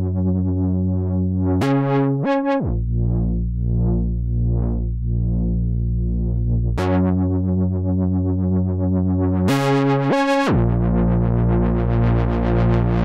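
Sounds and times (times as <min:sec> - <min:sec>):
synthesizer bass tone: 0:00.0 - 0:13.0.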